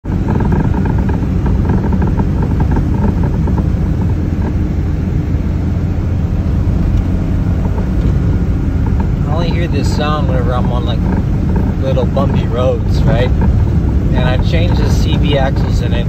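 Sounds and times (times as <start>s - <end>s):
road and engine rumble: 0.0s - 16.0s
suspension knocks and rattles: 0.0s - 16.0s.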